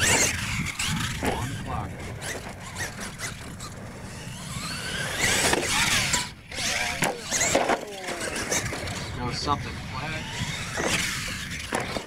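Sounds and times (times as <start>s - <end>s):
electric motor whining: 0.0s - 12.0s
tyres rushing on dirt: 0.0s - 12.0s.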